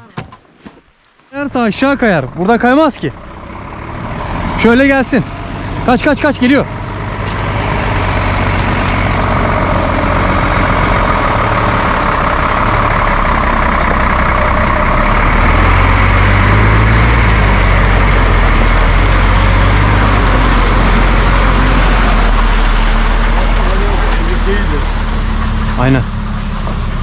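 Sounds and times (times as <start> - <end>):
tractor diesel engine running: 1.4 - 27.0.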